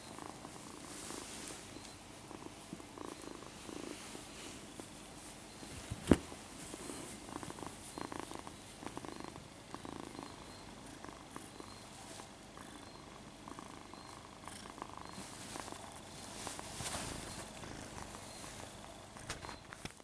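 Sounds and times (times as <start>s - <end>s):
kitten purring: 0.0s - 4.4s, 6.6s - 19.5s.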